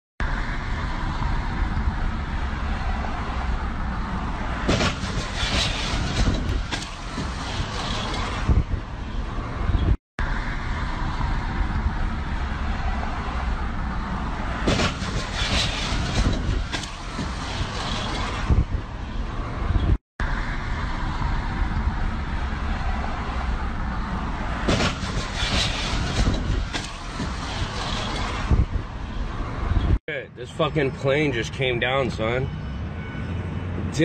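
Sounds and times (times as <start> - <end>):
car road and wind rumble: 0.2 - 34.0.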